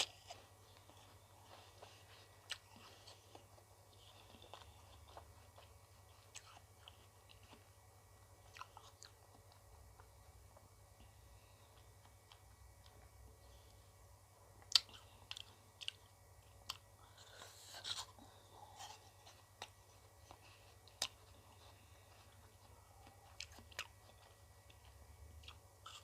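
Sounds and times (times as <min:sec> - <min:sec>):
chewing ice cream: 0:00.0 - 0:13.8, 0:14.6 - 0:26.0.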